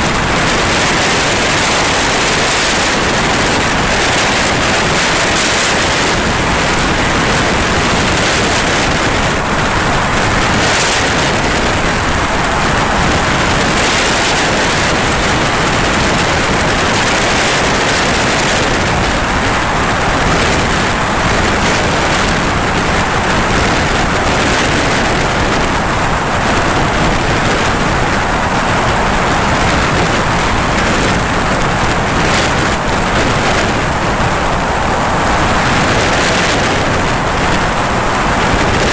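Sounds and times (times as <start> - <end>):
aircraft cabin engine roar: 0.0 - 38.9.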